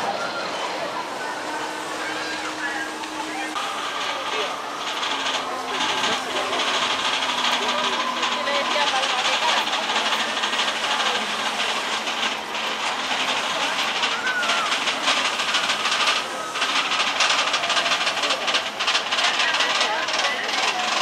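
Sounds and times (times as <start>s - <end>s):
roller coaster rushing: 0.0s - 21.0s
wheel clatter: 1.3s - 21.0s.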